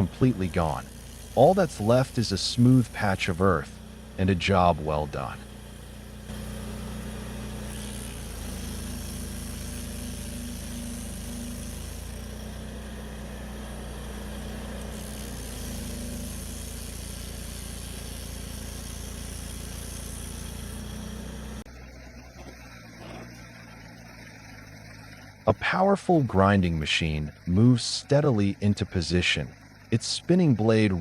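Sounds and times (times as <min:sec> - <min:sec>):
quieter machine sound: 0:00.0 - 0:31.0
stump grinder engine running: 0:00.0 - 0:31.0.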